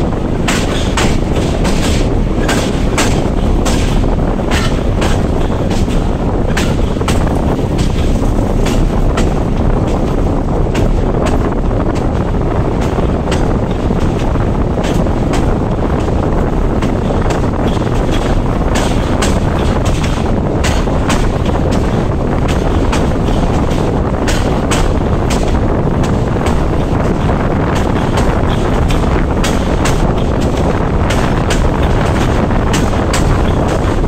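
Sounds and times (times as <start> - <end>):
train rumble: 0.0 - 34.0
wheels clicking over rail joints: 0.0 - 34.0
wind rush on microphone: 0.0 - 34.0.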